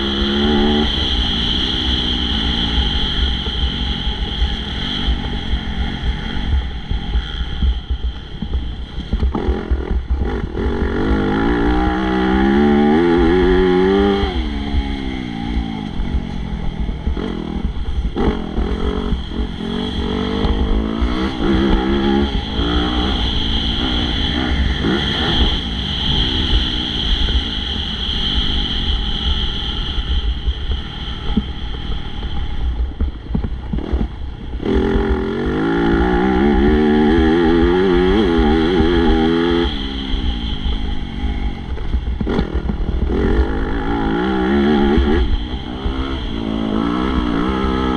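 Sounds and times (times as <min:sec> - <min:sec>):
motocross bike engine revving: 0:00.0 - 0:07.9, 0:09.3 - 0:28.8, 0:33.8 - 0:47.9.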